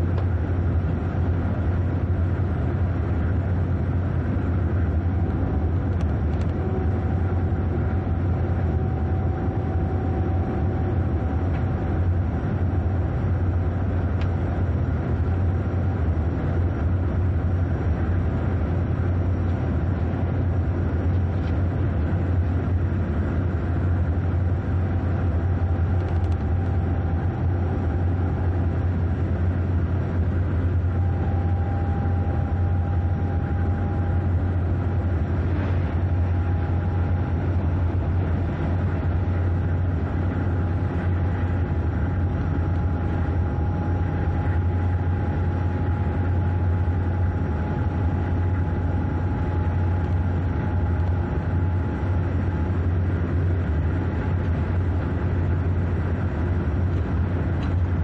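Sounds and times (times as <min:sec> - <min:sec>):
faint steady whine: 0:00.0 - 0:58.0
train running rumble: 0:00.0 - 0:58.0.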